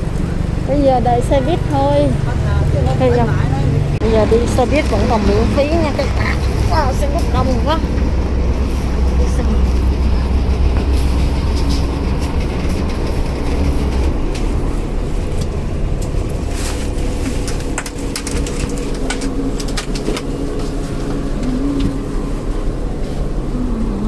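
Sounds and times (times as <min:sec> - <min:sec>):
bus engine rumble: 0:00.0 - 0:24.0.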